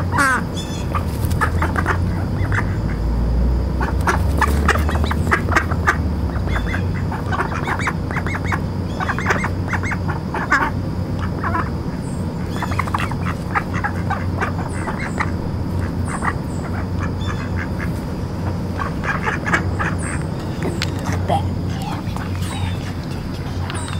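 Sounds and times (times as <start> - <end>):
ducks quacking: 0.0 - 23.9
steady low hum: 0.0 - 23.9.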